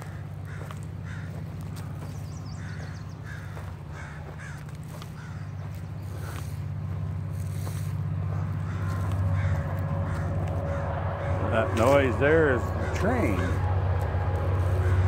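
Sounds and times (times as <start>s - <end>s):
crows cawing: 0.0s - 15.0s
distant train rumbling: 0.0s - 15.0s.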